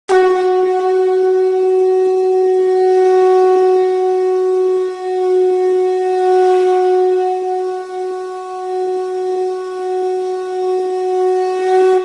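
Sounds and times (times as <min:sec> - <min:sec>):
conch shell blown: 0:00.1 - 0:12.0.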